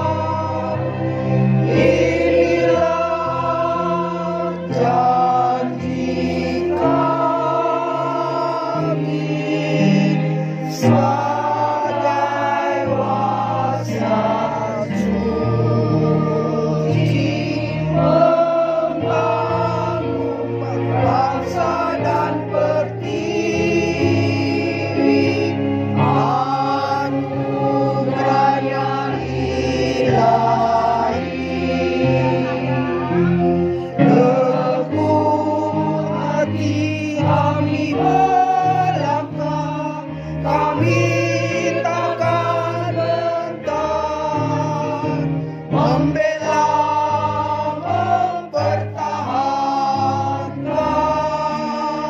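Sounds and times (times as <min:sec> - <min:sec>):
women's choir singing: 0:00.0 - 0:52.0.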